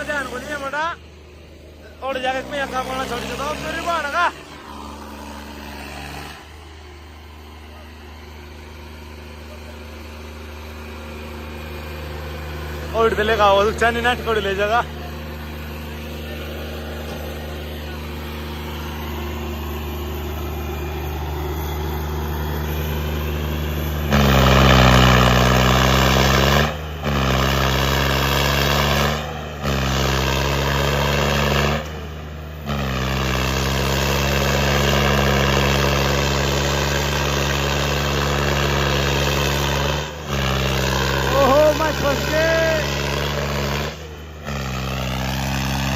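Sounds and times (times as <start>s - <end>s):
diesel tractor engine labouring: 0.0s - 45.9s.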